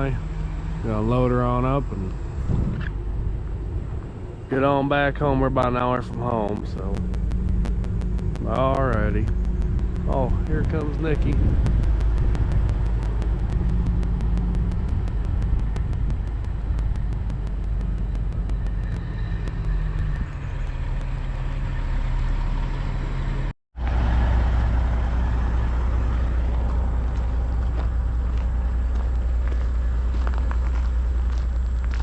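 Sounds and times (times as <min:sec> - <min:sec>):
heavy truck engine droning: 0:00.0 - 0:32.0.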